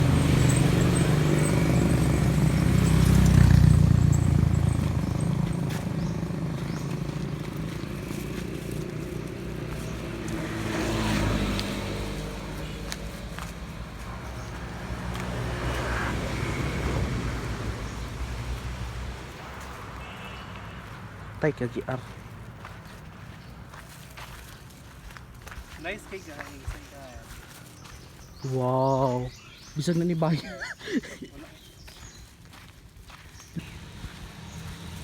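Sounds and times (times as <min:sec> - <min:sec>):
vehicle engine running: 0:00.0 - 0:25.6, 0:31.8 - 0:35.0.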